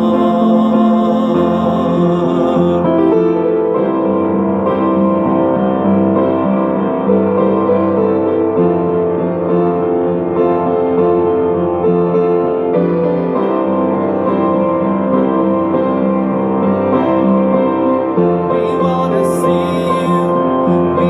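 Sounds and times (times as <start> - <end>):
piano melody with bass: 0.0 - 21.0.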